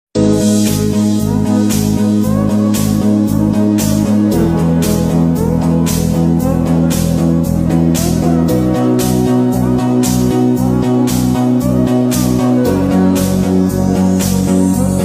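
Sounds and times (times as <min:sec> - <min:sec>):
guitar and bass music with beat: 0:00.2 - 0:15.0.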